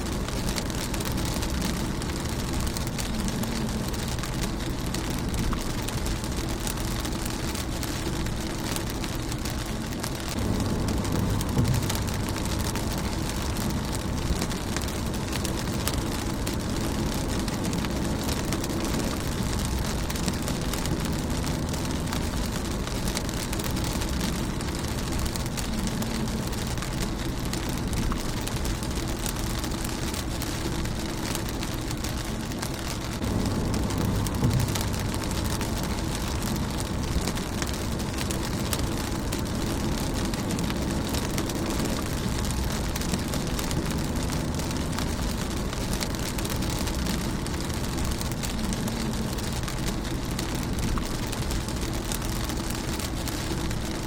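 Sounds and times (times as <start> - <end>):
low rumble: 0.0 - 54.0
rain on a car windscreen: 0.0 - 54.0.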